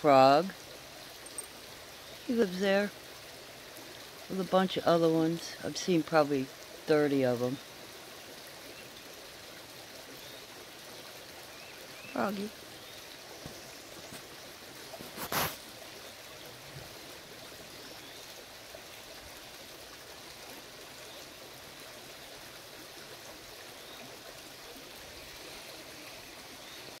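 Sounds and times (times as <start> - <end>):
creek water trickling: 0.0 - 27.0.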